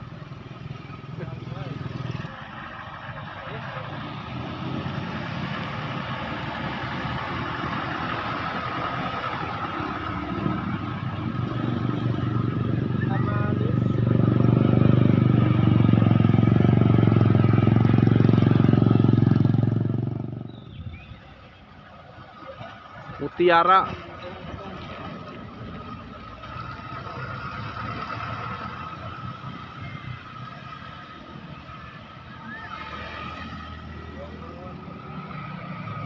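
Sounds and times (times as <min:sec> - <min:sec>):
truck engine humming: 0:00.0 - 0:33.0.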